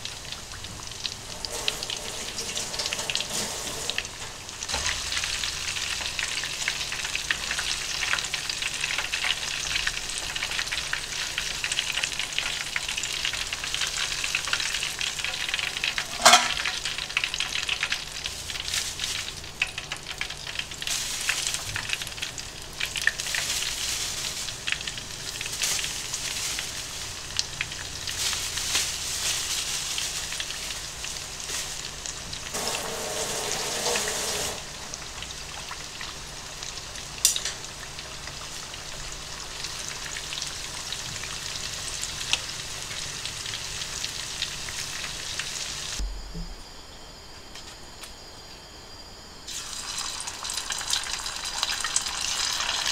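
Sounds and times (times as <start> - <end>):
chicken deep-frying in oil: 0.0 - 46.0, 49.4 - 52.9.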